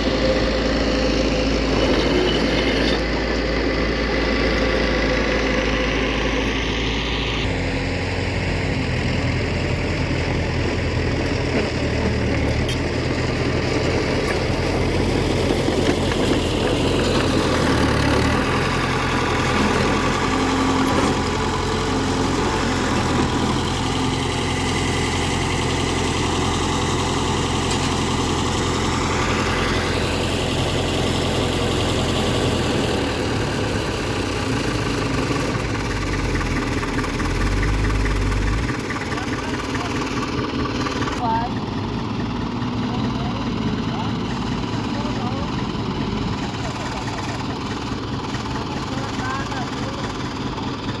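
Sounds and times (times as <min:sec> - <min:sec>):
heavy diesel engines droning: 0:00.0 - 0:51.0.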